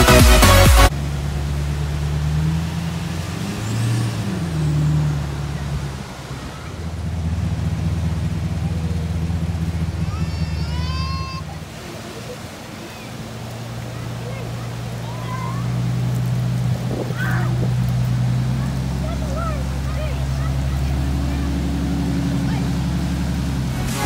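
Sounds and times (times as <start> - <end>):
truck engine at low revs: 0.0 - 24.0.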